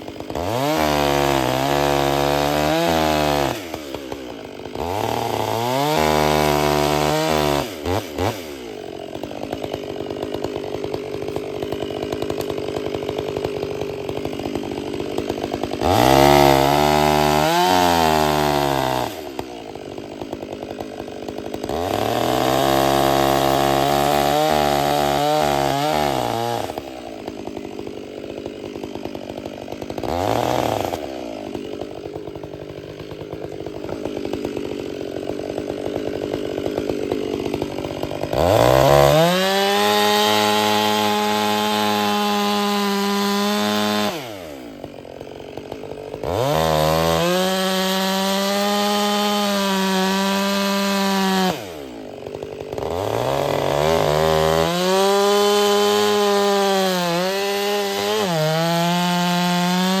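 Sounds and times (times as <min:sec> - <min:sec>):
chainsaw revving and idling: 0:00.0 - 1:00.0.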